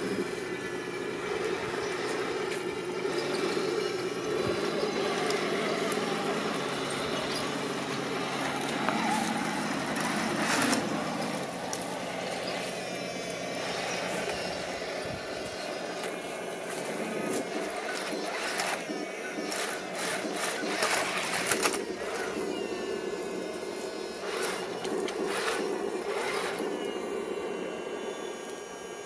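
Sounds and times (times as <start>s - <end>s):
toy tank motors whining: 0.0s - 29.0s.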